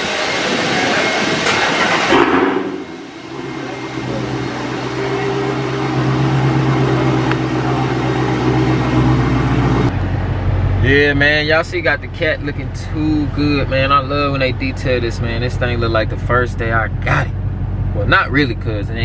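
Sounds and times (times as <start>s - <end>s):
outside noise: 0.0s - 19.0s
car engine idling: 1.1s - 19.0s.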